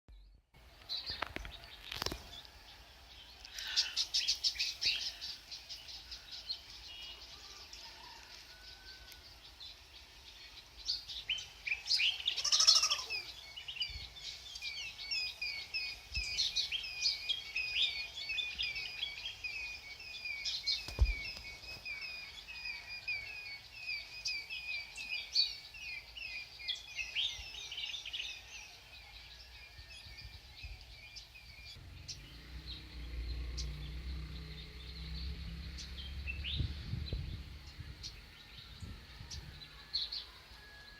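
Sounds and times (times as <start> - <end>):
birds chirping and trilling: 0.1 - 40.9.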